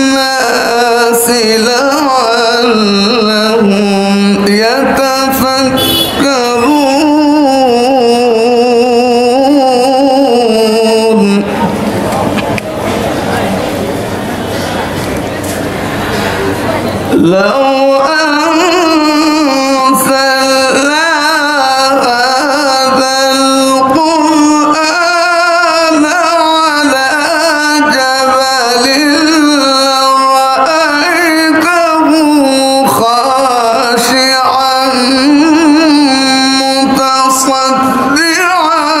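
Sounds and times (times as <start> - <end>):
man reciting melodically: 0.0 - 12.4, 17.1 - 39.0.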